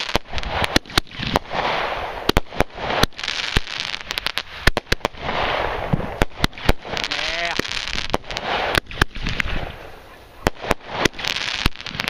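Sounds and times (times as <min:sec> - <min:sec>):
fireworks bangs and pops: 0:00.0 - 0:12.0
fireworks rushing hiss: 0:00.0 - 0:12.0.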